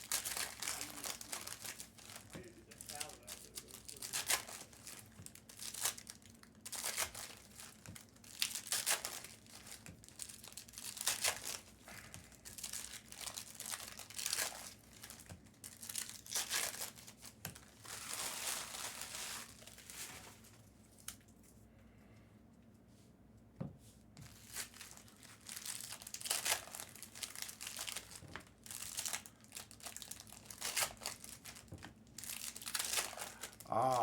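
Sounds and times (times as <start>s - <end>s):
foil wrapper crinkling and tearing: 0.0s - 20.4s, 24.3s - 33.7s.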